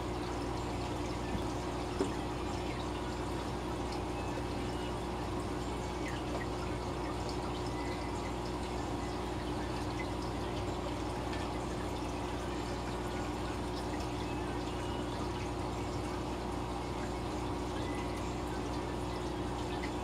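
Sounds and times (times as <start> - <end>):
aquarium air bubbles bubbling: 0.0 - 20.0.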